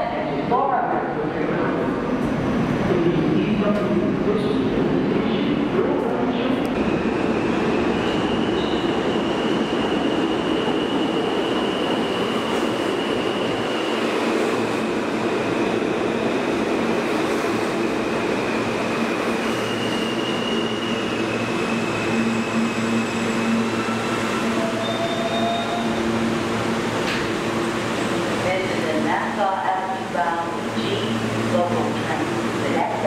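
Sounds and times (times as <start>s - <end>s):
train wheels rumbling on rails: 5.8s - 33.0s.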